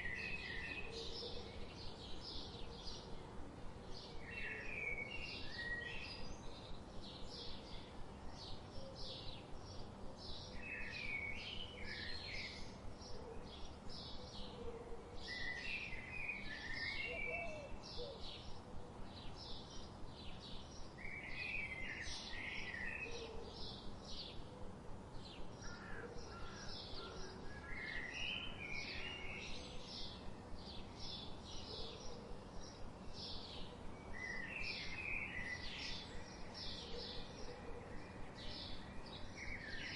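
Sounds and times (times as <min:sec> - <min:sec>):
songbirds chirping: 0:00.0 - 0:39.9
steady background hiss: 0:00.0 - 0:39.9.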